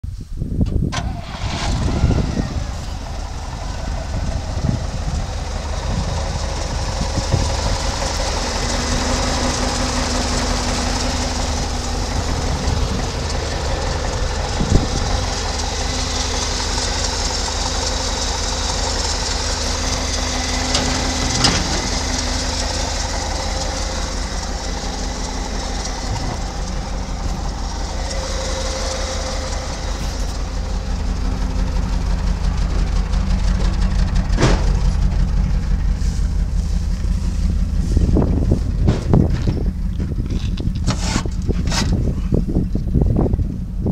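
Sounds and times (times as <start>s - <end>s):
truck engine idling: 1.0s - 43.9s.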